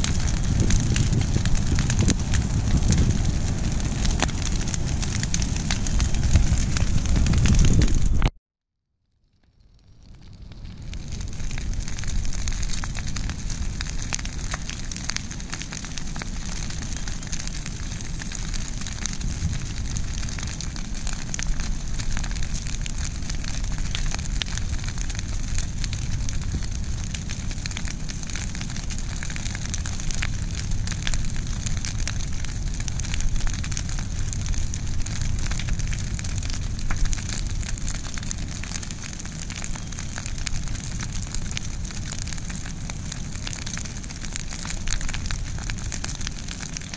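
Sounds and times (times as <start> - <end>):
brush pile crackling and popping: 0.0 - 8.3, 9.8 - 46.9
low rumble: 0.0 - 8.3, 10.2 - 46.9.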